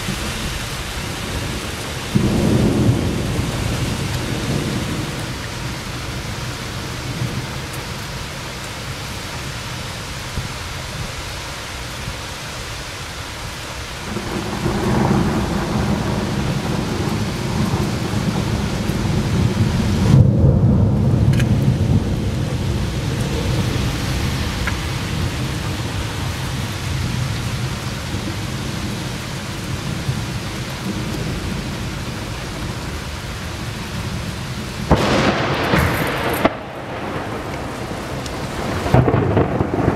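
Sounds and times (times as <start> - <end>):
rolling thunder rumble: 0.0 - 8.1, 14.0 - 39.9
rain hiss: 0.0 - 39.9.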